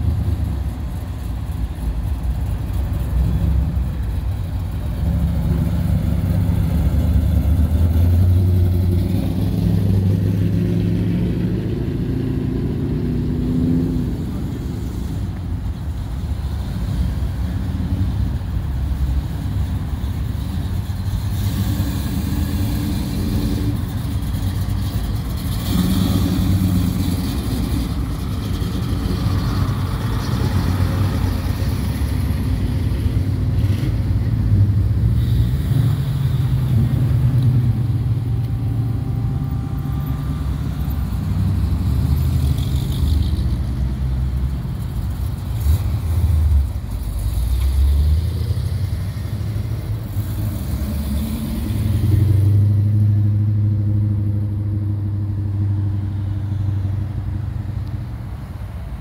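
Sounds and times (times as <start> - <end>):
car engines rumbling past: 0.0 - 59.0.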